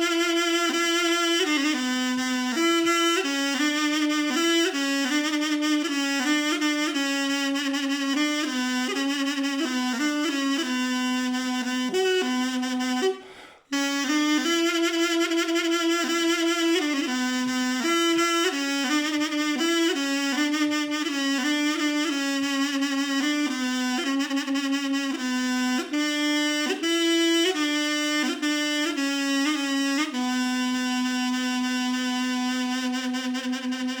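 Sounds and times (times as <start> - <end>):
double-reed wind instrument melody: 0.0 - 34.0.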